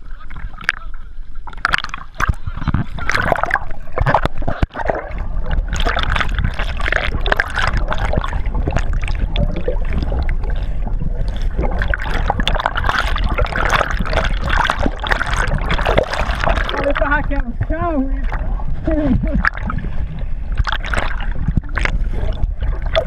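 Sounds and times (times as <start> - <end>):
water rushing and splashing: 0.0 - 23.0.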